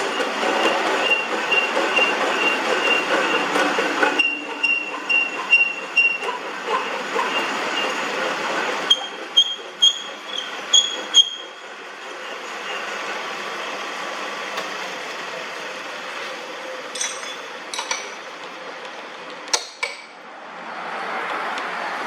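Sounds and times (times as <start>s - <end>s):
metal lathe whirring: 0.0s - 20.1s.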